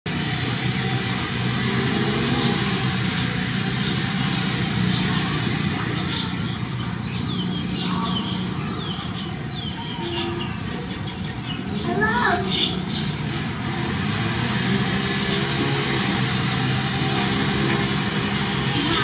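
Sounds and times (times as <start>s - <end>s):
low engine-like drone: 0.1s - 19.0s.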